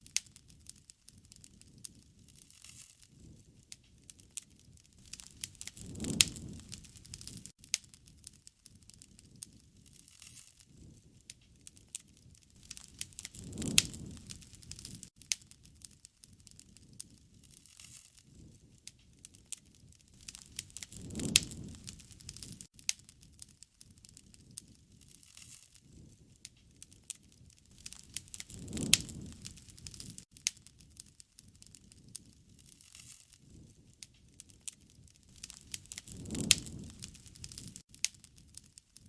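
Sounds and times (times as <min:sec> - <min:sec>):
wood bonfire crackling: 0:00.0 - 0:39.0.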